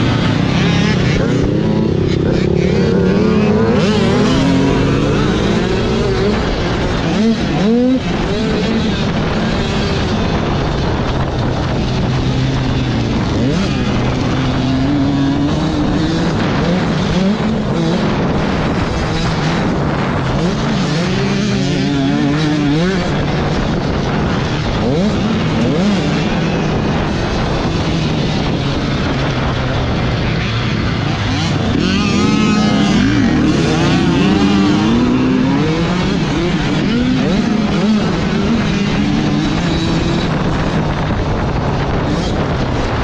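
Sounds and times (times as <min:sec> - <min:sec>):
dirt bike engine revving: 0:00.0 - 0:43.0
wind rush: 0:00.0 - 0:43.0.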